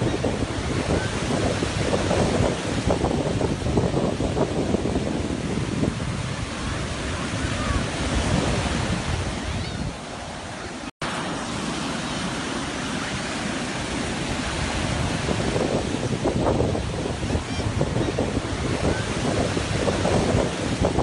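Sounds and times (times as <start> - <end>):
wind buffeting microphone: 0.0 - 10.5, 13.4 - 21.0
sea waves washing ashore: 0.0 - 21.0.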